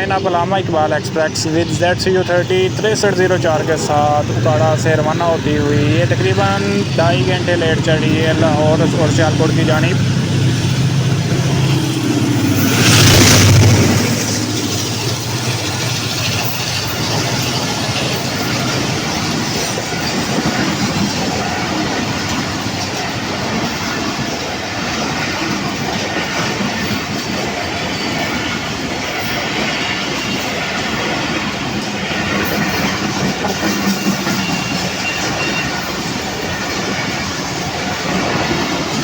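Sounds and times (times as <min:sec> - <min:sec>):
train wheels clickety-clack: 0:00.0 - 0:39.0.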